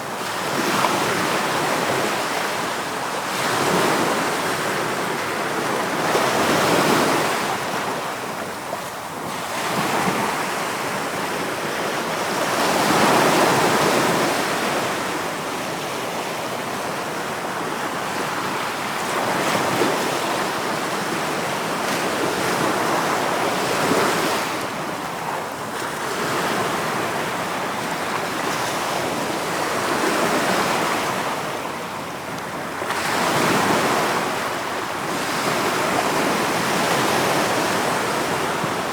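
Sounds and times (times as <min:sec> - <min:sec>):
wind: 0:00.0 - 0:38.9.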